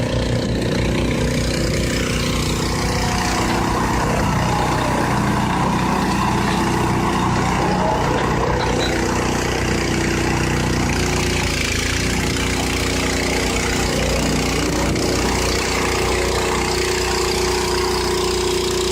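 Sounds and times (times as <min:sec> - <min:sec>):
farm machine engine running: 0:00.0 - 0:18.9.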